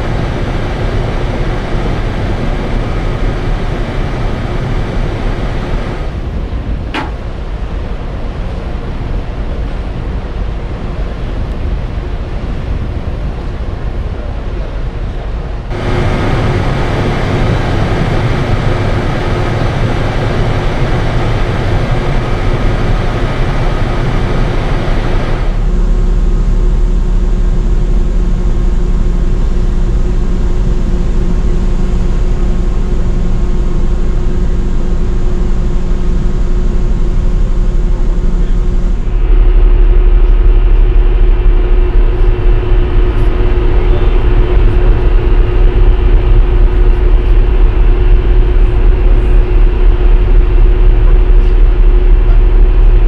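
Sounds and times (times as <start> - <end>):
ship engines humming and rumbling: 0.0 - 53.0.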